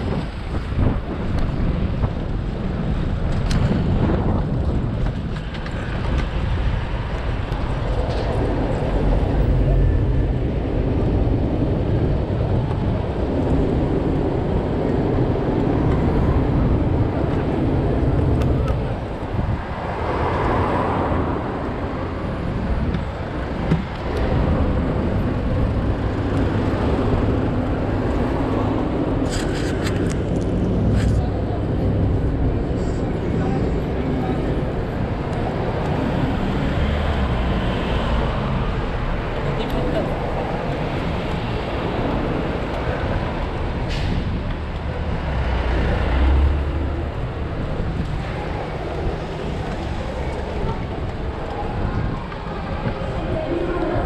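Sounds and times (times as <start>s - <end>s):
car engines: 0.0s - 54.0s
city street traffic rumble: 0.0s - 54.0s.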